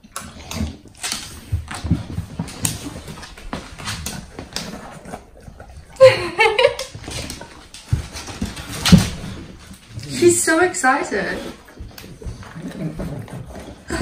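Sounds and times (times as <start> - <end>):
dog snuffling and sniffing: 0.1 - 6.1, 6.9 - 14.0.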